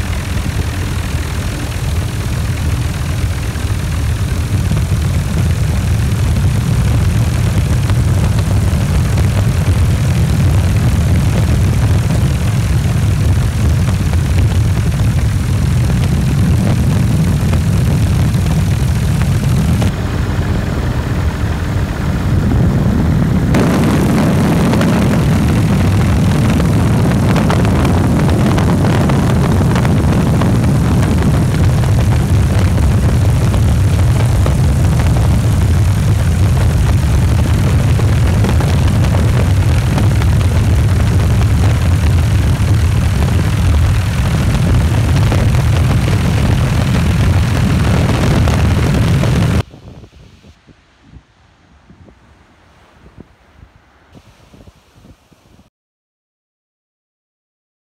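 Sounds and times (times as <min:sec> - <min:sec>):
helicopter rotor and engine drone: 0:00.0 - 0:49.6
faint wind noise: 0:00.0 - 0:55.7
rushing air: 0:00.0 - 0:55.7.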